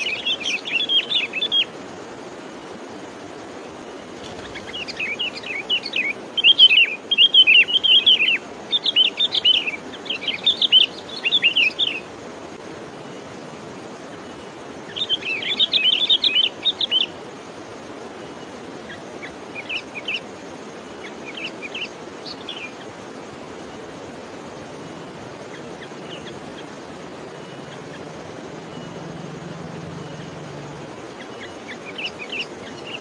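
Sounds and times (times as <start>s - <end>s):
songbird chirping: 0.0s - 33.0s
steady outdoor hiss: 0.0s - 33.0s.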